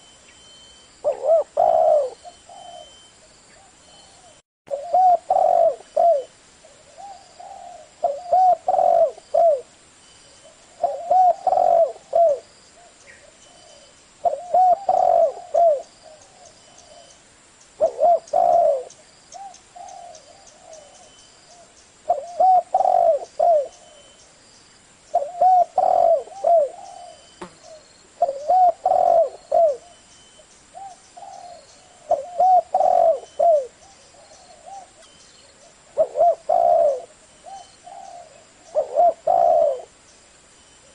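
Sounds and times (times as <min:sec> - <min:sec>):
dove cooing: 0:01.0 - 0:09.7, 0:10.4 - 0:17.2, 0:17.8 - 0:24.2, 0:25.1 - 0:30.0, 0:30.7 - 0:40.0.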